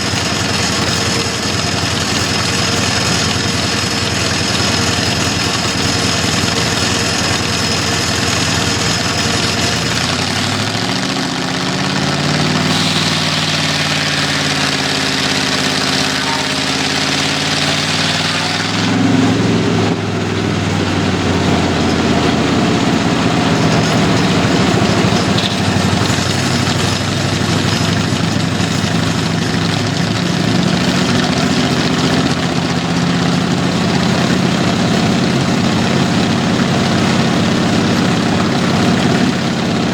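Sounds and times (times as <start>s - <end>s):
engine running: 0.0s - 39.9s
sawmill running: 0.0s - 39.9s.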